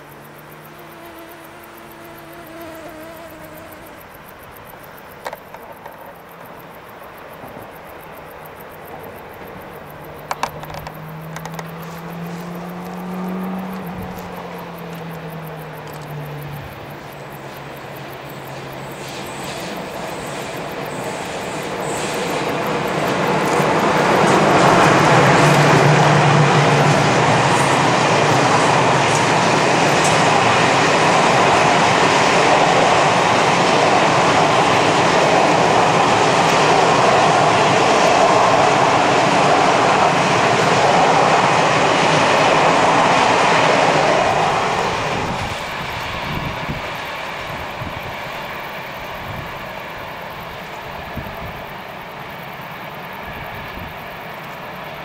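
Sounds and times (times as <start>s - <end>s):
train clickety-clack: 4.2s - 55.0s
train wheels rumbling on rail: 4.2s - 55.0s.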